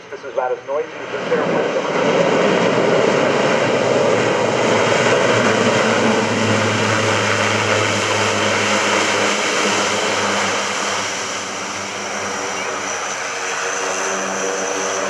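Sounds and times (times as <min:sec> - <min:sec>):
turboprop engines roaring: 0:00.0 - 0:15.0.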